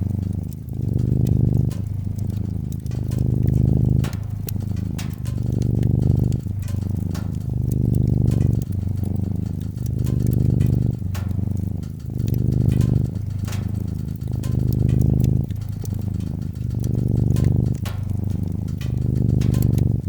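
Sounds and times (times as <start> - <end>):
cat purring: 0.0 - 20.0
wood fire crackling: 0.0 - 20.0.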